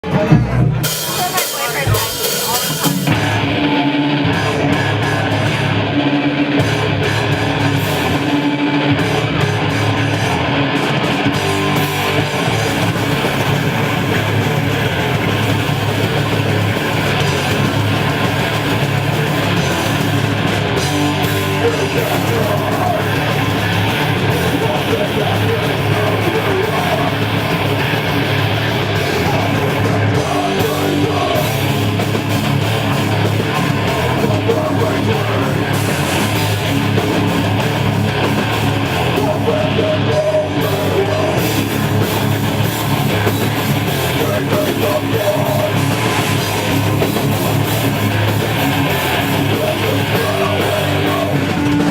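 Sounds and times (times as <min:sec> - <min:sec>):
bass guitar: 0:00.0 - 0:51.9
distorted electric guitars: 0:00.0 - 0:51.9
drums: 0:00.0 - 0:51.9.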